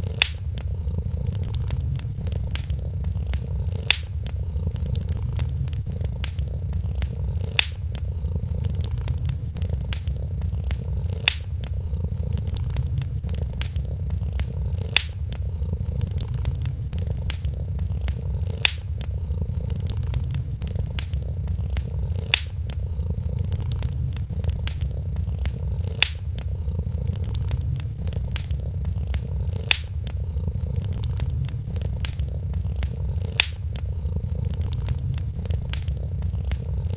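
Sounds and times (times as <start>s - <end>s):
cat purring: 0.0s - 36.9s
fire pops: 0.0s - 36.9s
wood fire crackling: 0.0s - 36.9s.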